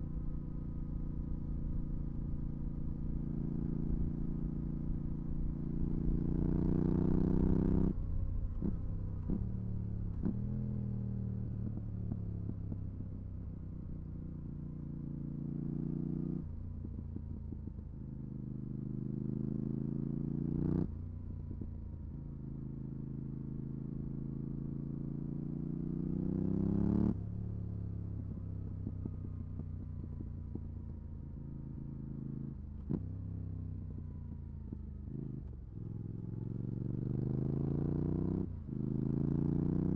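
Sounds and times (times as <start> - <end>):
motorcycle engine accelerating: 0.0 - 14.3, 15.0 - 39.9.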